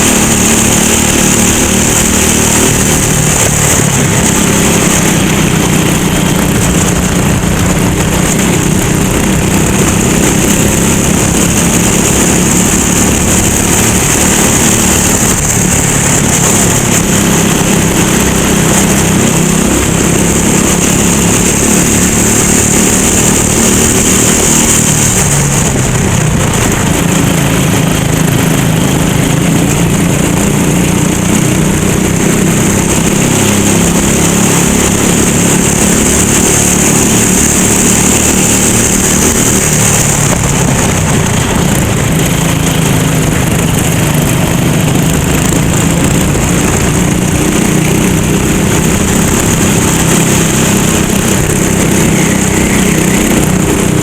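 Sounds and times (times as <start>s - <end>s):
go-kart engine racing: 0.0s - 54.0s.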